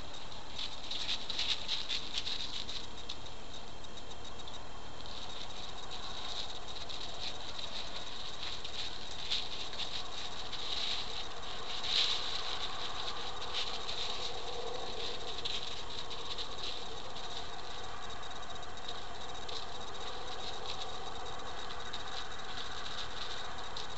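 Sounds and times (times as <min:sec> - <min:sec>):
background hiss: 0:00.0 - 0:23.9
crickets chirping: 0:00.0 - 0:23.9
faint ticks: 0:00.0 - 0:23.9.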